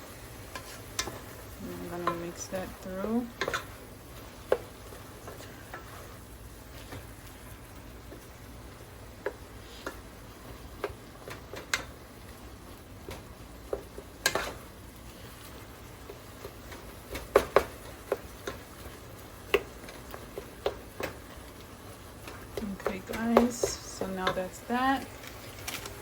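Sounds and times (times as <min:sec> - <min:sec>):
meat sizzling in oil: 0:00.0 - 0:26.0.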